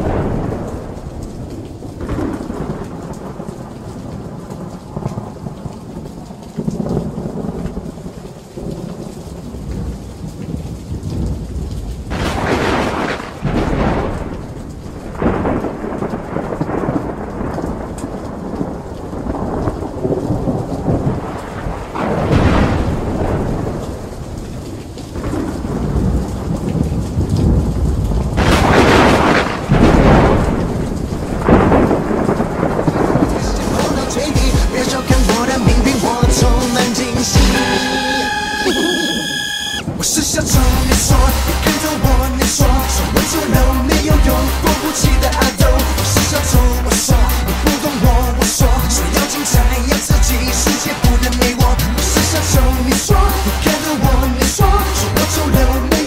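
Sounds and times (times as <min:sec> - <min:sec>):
thunder rumbling and crashing: 0:00.0 - 0:05.8, 0:11.0 - 0:38.6, 0:39.8 - 0:56.0
steady rain: 0:00.0 - 0:56.0.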